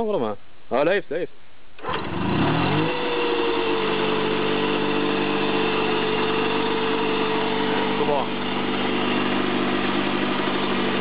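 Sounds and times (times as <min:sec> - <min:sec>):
generator engine starting and running: 0:01.8 - 0:11.0.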